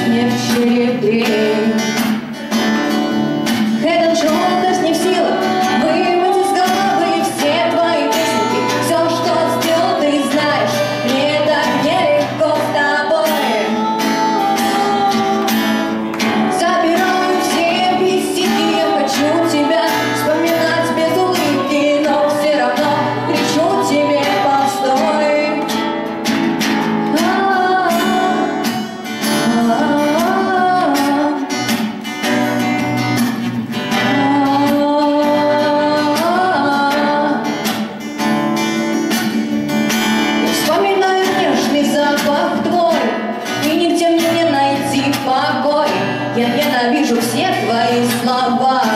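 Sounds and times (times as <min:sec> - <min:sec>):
woman singing a pop song: 0:00.0 - 0:32.0, 0:33.7 - 0:38.0, 0:39.7 - 0:48.9
strummed acoustic guitar: 0:00.0 - 0:48.9.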